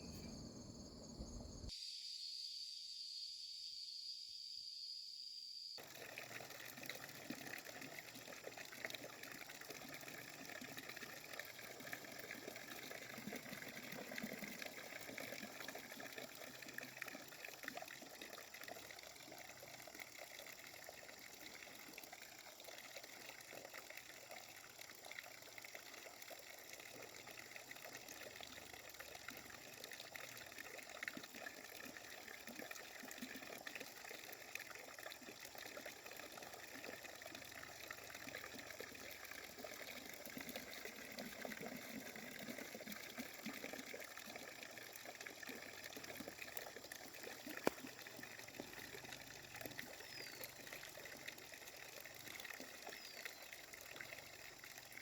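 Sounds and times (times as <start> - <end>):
water running and splashing: 5.8 - 55.0.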